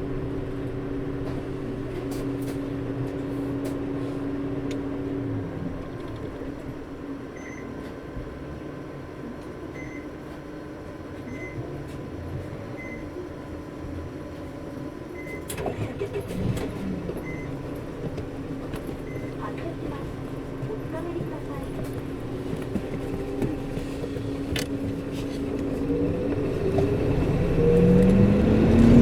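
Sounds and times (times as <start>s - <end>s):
bus diesel engine humming: 0.0s - 29.0s.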